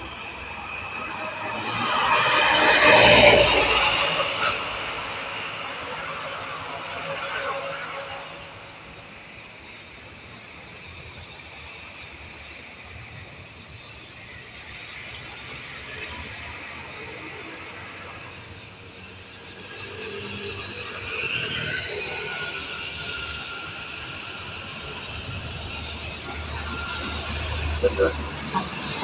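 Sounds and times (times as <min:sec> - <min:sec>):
steady high-pitched tone: 0:00.0 - 0:11.5, 0:12.1 - 0:29.0
distant road traffic rumble: 0:00.0 - 0:29.0.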